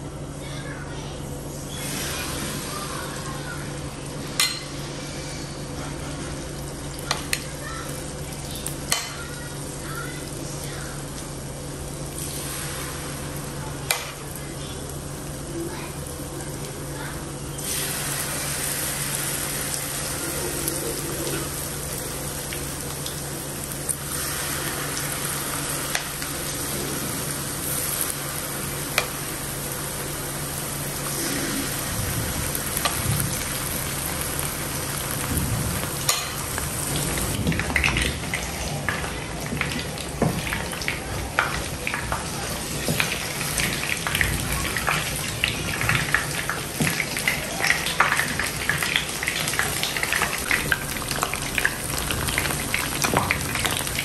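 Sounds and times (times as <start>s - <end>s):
batter sizzling in hot oil: 1.6s - 54.0s.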